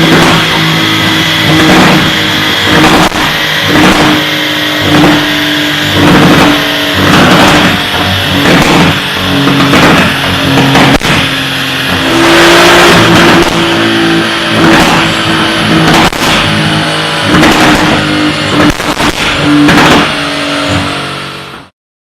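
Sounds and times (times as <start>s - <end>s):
car engine revving: 0.0s - 21.7s
exhaust cracks: 0.0s - 21.7s.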